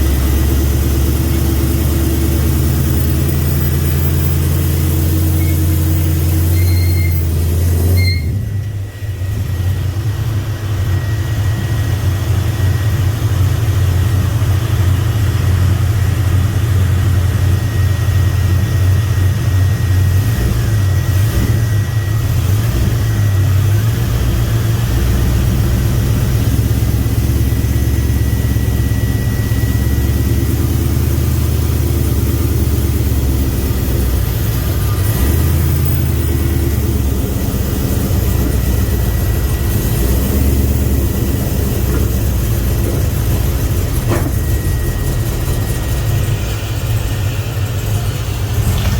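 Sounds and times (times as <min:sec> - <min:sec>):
truck engine idling: 0:00.0 - 0:48.9.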